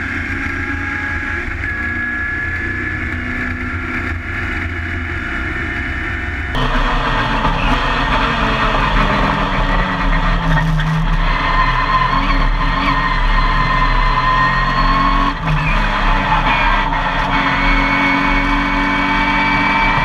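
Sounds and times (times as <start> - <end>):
car engine deep rumble: 0.0 - 20.0
racing car engine running hard: 0.0 - 20.0
steady high whine: 0.0 - 20.0.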